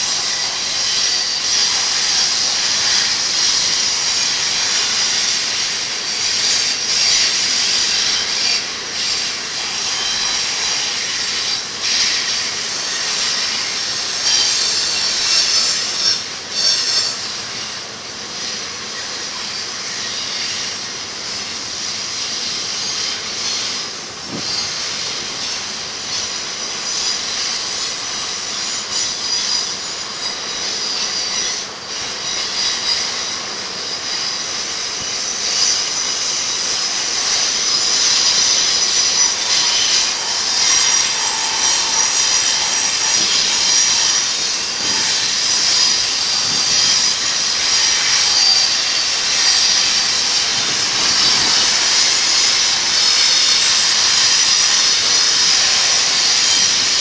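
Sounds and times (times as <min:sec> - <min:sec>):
train wheels squealing on rails: 0:00.0 - 0:57.0.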